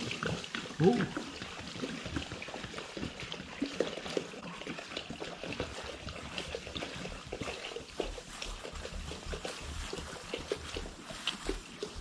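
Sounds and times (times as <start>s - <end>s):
goats slurping water: 0.0s - 12.0s.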